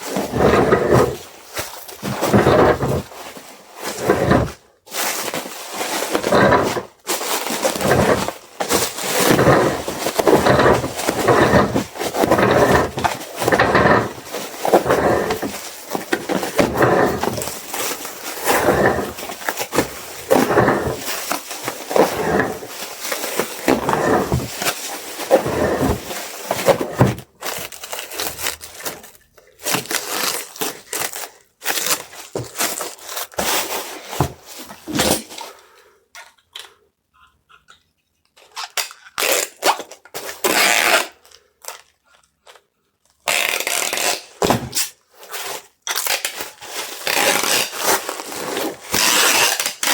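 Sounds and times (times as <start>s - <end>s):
packaging rustling and crinkling: 0.0s - 35.8s, 39.8s - 49.9s.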